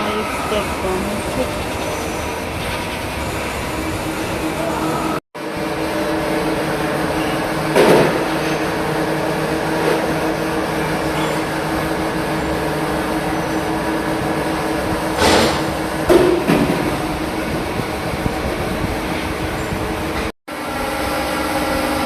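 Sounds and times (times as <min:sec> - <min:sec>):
machine humming and whining: 0:00.0 - 0:22.0.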